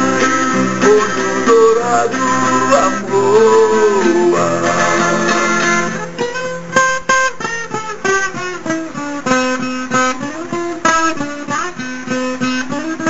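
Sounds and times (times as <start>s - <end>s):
guitar bass notes: 0.0s - 13.0s
guitar plucking melodic run: 0.0s - 13.0s.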